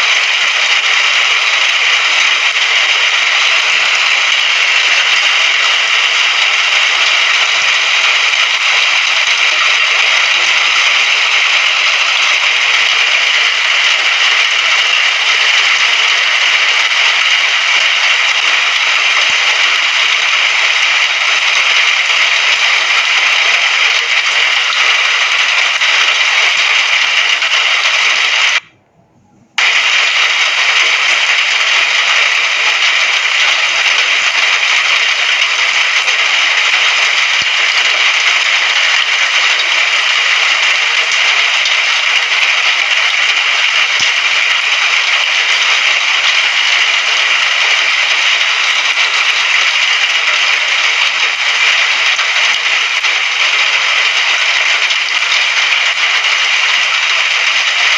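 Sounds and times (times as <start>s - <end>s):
rain falling: 0.0s - 28.7s, 29.6s - 57.9s.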